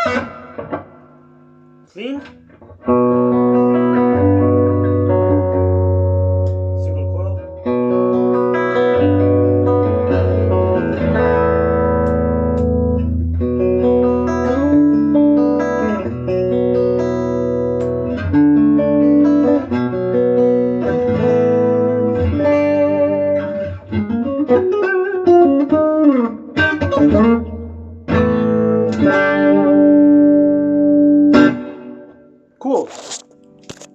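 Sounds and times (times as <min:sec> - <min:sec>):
electric guitar through amp: 0:00.0 - 0:32.3.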